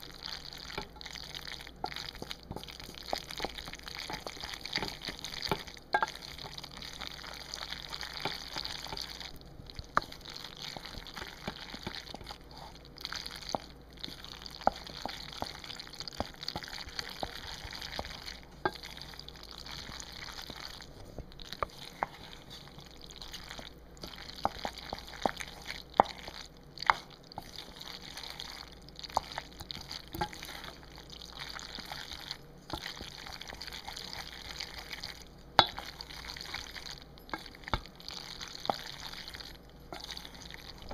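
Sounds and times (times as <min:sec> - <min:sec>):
spoon in sticky macaroni: 0:00.0 - 0:40.9.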